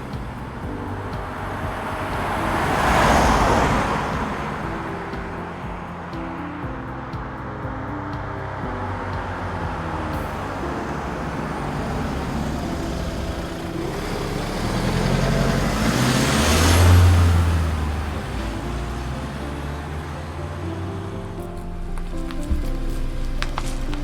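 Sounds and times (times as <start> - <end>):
van driving past: 0.0 - 24.0.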